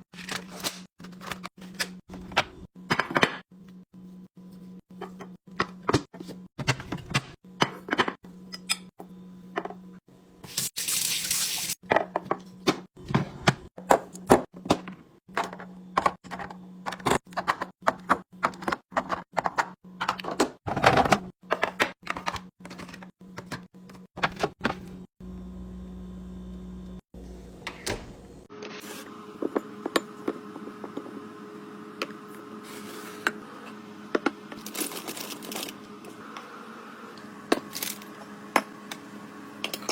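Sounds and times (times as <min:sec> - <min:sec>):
fridge hum: 0:00.0 - 0:39.9.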